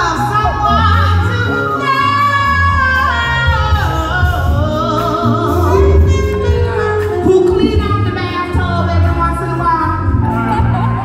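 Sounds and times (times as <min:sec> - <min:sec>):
live band accompaniment: 0:00.0 - 0:11.0
woman singing with vibrato: 0:00.0 - 0:11.0.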